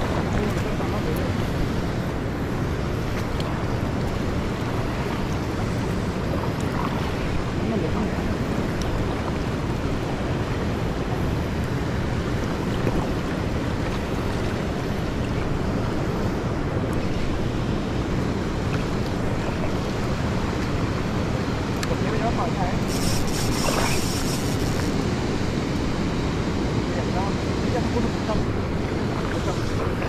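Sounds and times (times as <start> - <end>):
fast-flowing river rushing: 0.0 - 30.0.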